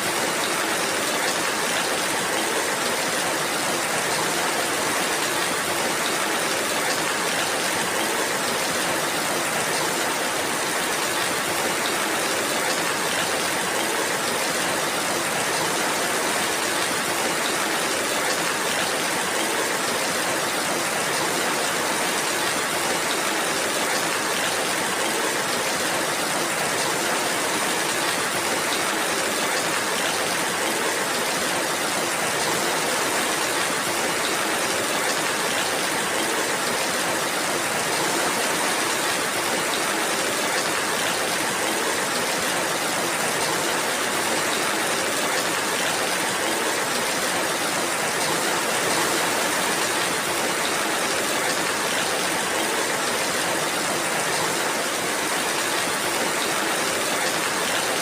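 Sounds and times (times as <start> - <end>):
heavy rainfall: 0.0 - 58.0.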